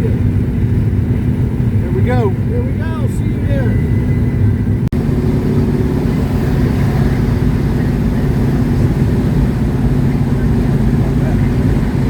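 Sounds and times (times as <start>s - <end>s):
car engine running: 0.0s - 12.0s
road and wind noise: 0.0s - 12.0s.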